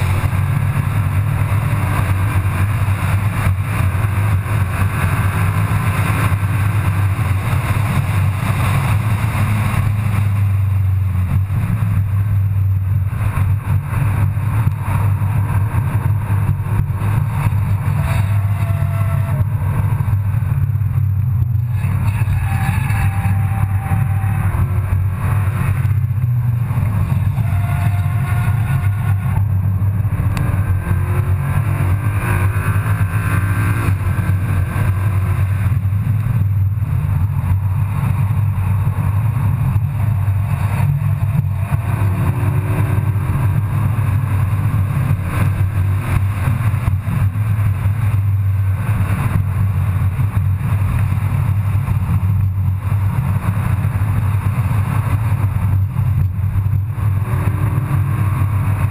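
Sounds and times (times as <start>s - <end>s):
car engine drone: 0.0s - 58.9s
road noise: 0.0s - 58.9s.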